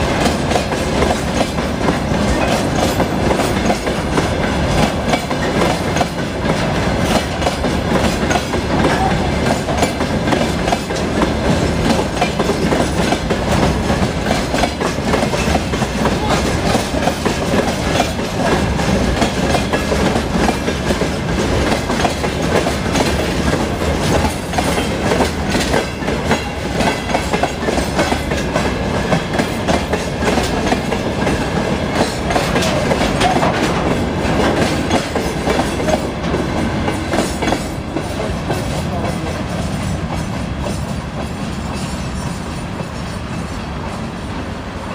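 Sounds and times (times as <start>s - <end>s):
train wheels clattering over rails: 0.0s - 44.9s.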